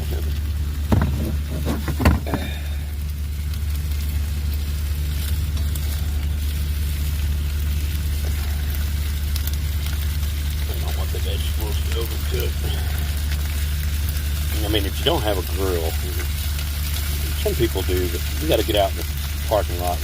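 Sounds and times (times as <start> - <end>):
low engine-like hum: 0.0 - 20.0
meat and vegetables sizzling: 0.0 - 20.0.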